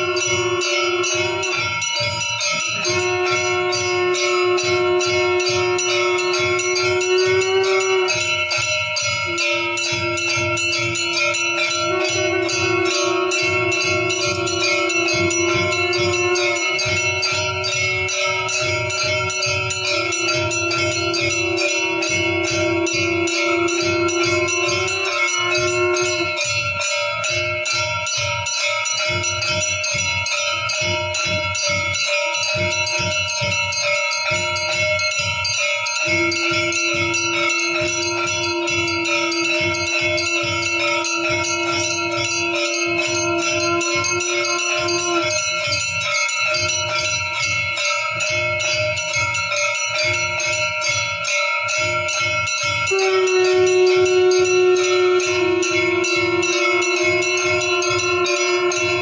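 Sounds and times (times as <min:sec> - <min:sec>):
steady held tone: 0:00.0 - 0:59.0
temple bells ringing rapidly: 0:00.0 - 0:59.0.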